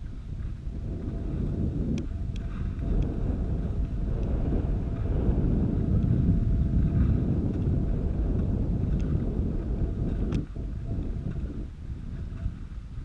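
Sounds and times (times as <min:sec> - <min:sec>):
skis sliding over snow: 0:00.0 - 0:13.0
wind buffeting microphone: 0:00.0 - 0:13.0.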